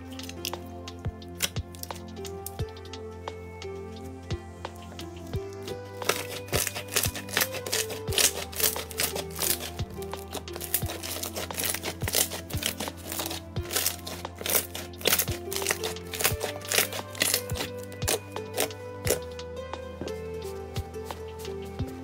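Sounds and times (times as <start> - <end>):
background music with soft beat: 0.0 - 22.0.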